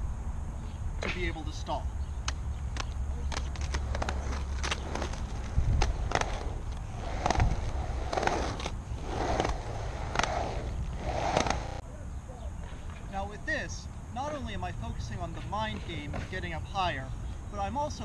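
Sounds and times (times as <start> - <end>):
skate wheels rolling on concrete: 1.0 - 11.8, 12.6 - 18.0.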